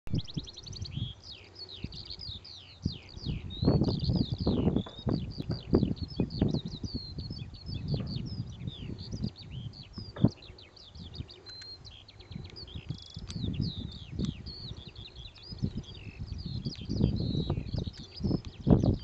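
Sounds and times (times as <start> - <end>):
songbirds chirping and singing: 0.2 - 19.0.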